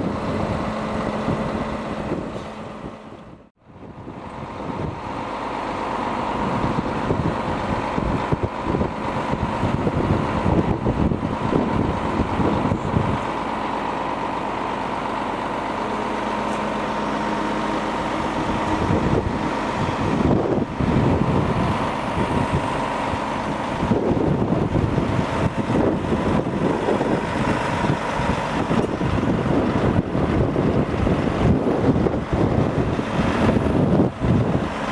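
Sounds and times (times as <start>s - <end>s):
wind buffeting microphone: 0.0s - 5.4s, 6.1s - 13.5s, 17.8s - 34.9s
truck engine running: 0.0s - 34.9s.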